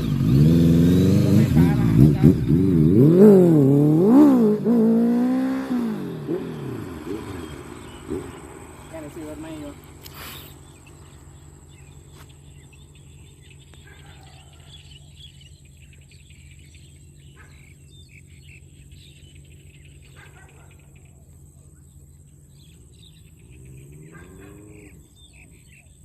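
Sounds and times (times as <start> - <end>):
birds chirping: 0.0 - 26.0
motorcycle engine idling: 0.0 - 26.0.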